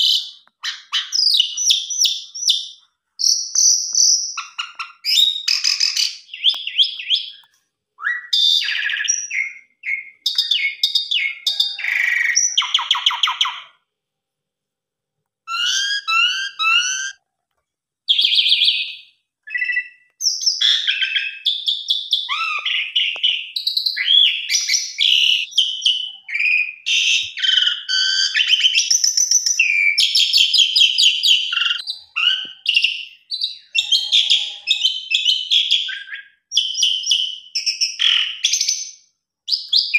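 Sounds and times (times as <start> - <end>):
starling singing: 0.0 - 13.8, 15.5 - 17.2, 18.1 - 38.9.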